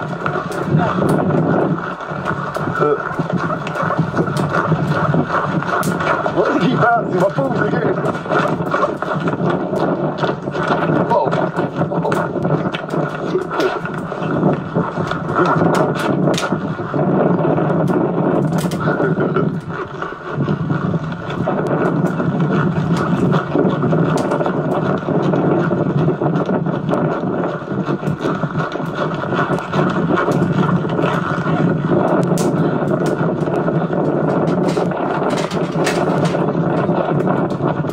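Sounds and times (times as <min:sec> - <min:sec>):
dense steady rumble: 0:00.0 - 0:37.9.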